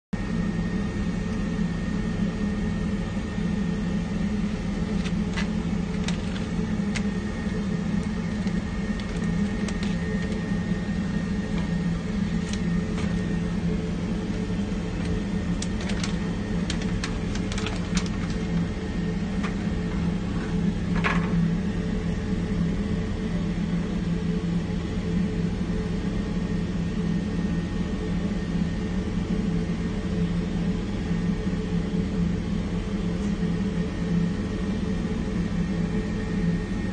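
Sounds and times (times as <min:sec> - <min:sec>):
low mechanical hum: 0:00.2 - 0:36.9.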